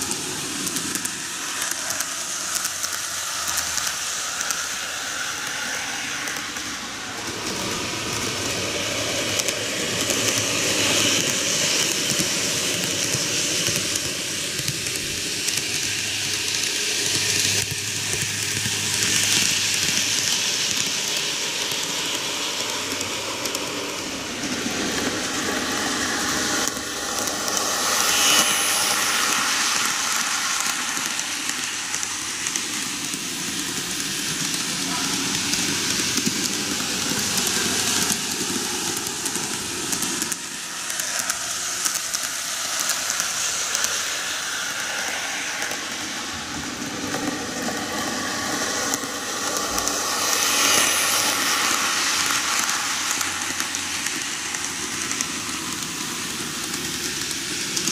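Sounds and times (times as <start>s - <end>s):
model trains rolling on track: 0.0s - 57.9s.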